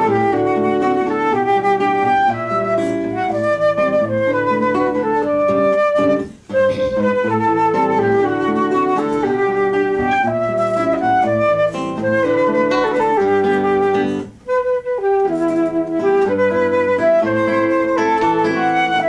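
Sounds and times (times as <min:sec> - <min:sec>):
flute melody: 0:00.0 - 0:19.0
plucked guitar: 0:00.0 - 0:19.0.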